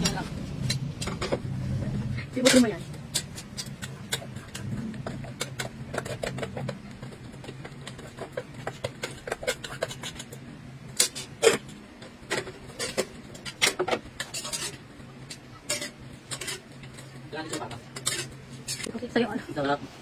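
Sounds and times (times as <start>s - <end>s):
metal utensil scraping a pot: 2.1s - 18.9s.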